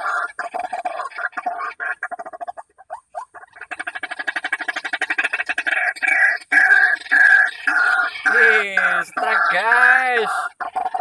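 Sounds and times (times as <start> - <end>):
waterhen croaking calls: 0.0 - 11.0.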